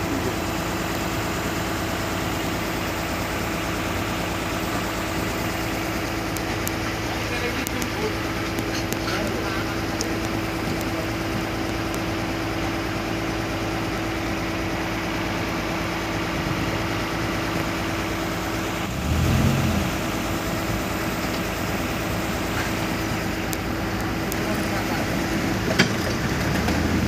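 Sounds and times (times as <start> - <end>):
diesel construction machinery running: 0.0 - 27.0.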